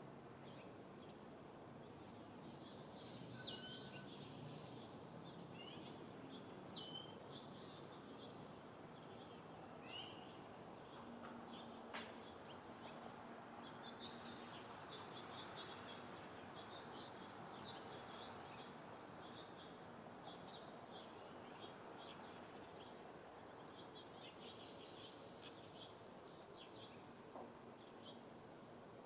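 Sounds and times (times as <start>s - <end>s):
outdoor background hiss: 0.0s - 29.0s
songbirds chirping: 0.0s - 29.0s.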